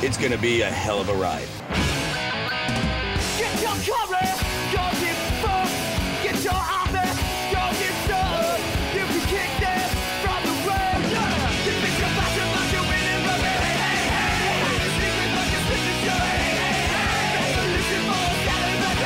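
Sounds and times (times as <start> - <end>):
driving drum beat: 0.0 - 19.0
punk rock music: 0.0 - 19.0
electric guitars: 1.4 - 19.0
shouted vocals: 3.3 - 19.0.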